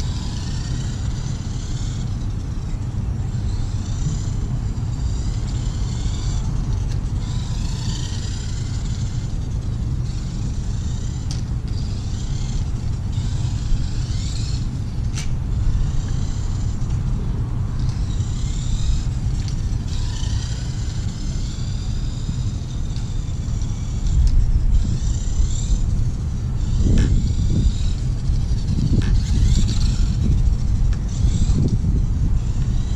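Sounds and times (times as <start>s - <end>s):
small electric motor whining: 0.0s - 32.9s
steady low rumble: 0.0s - 32.9s.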